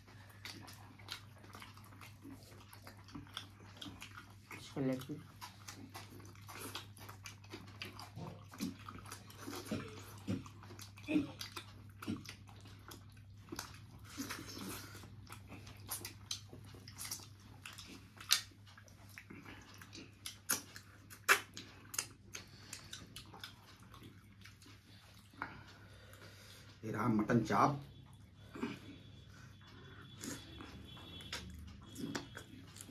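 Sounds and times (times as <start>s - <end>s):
person chewing: 0.0s - 26.8s, 28.0s - 32.9s.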